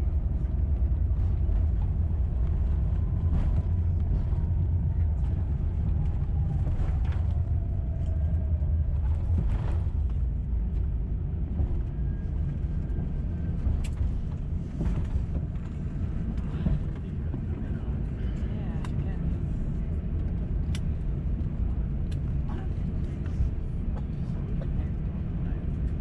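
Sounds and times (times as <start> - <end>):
low rumble in aircraft cabin: 0.0 - 26.0.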